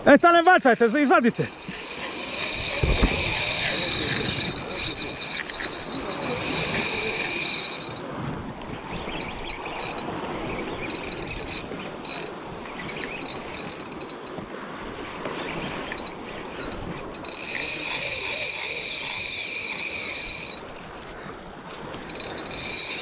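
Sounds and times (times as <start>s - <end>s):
reel cranked whirring and clicking: 0.2s - 8.1s, 9.2s - 10.2s, 10.8s - 14.4s, 15.8s - 20.8s, 22.0s - 23.0s
fishing reel drag whining: 0.4s - 8.0s, 9.0s - 14.4s, 15.4s - 20.8s, 22.0s - 23.0s.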